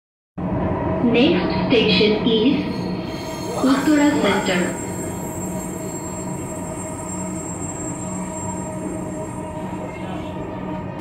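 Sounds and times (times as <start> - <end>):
train rolling noise: 0.4 - 11.0.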